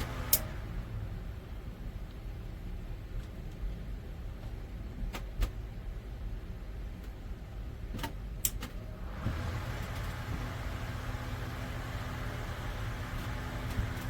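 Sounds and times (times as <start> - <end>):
exhaust fan humming: 0.0 - 14.0.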